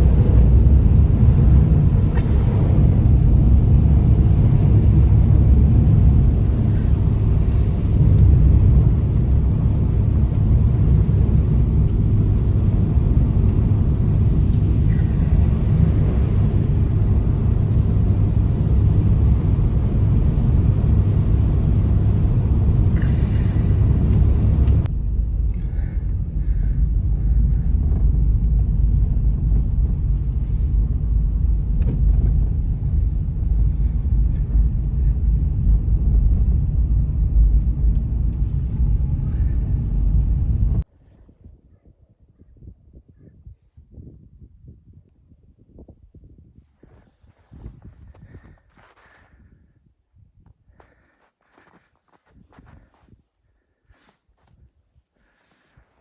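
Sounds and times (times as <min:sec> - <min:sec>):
strong snowstorm wind blowing: 0:00.0 - 0:56.0.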